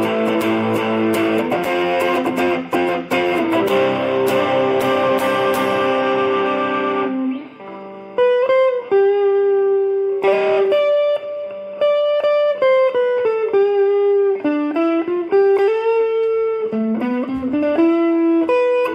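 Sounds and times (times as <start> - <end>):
electric guitar melody: 0.0 - 18.9.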